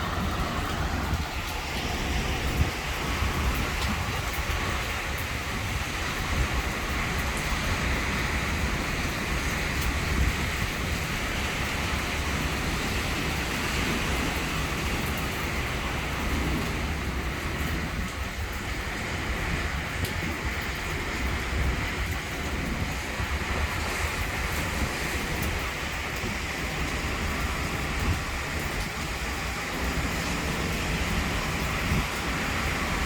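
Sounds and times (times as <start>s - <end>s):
heavy rain pouring: 0.0s - 33.0s
wind buffeting microphone: 0.0s - 33.0s.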